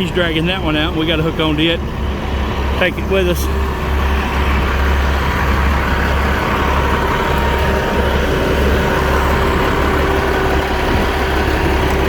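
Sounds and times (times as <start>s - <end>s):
heavy vehicle engine rumbling: 0.0s - 12.0s.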